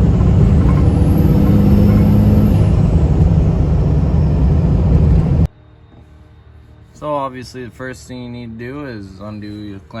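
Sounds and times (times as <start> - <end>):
diesel engine rumbling: 0.0 - 10.0.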